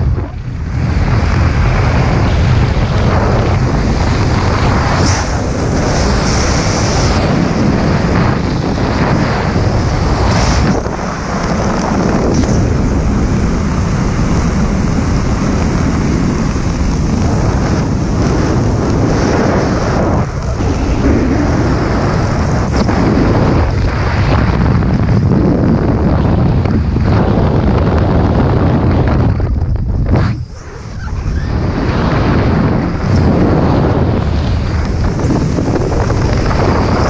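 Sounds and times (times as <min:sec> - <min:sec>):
wind noise on microphone: 0:00.0 - 0:37.0.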